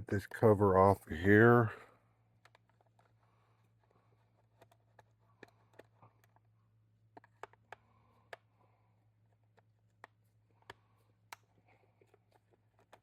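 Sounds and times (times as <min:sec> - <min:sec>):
faint clicks and taps of tools: 0:02.4 - 0:13.0.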